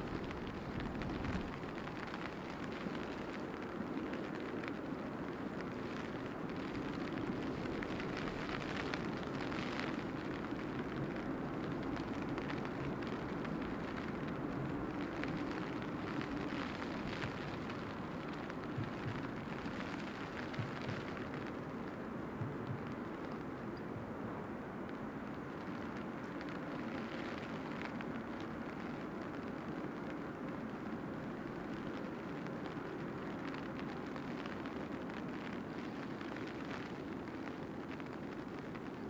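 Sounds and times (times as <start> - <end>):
rain drop ticks: 0.0 - 39.0
steady rain hiss: 0.0 - 39.0.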